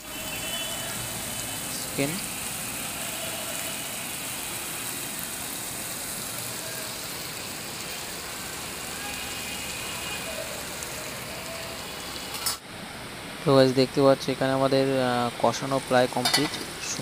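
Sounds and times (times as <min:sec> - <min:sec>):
masala sizzling in hot oil: 0:00.0 - 0:17.0.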